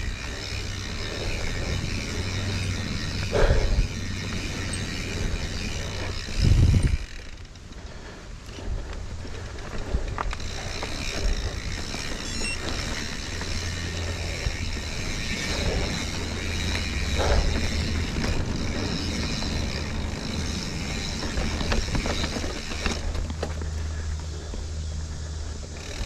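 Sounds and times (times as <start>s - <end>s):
bike tyres rolling over rock: 0.0s - 24.7s, 25.4s - 26.0s
bike rattling: 0.0s - 26.0s.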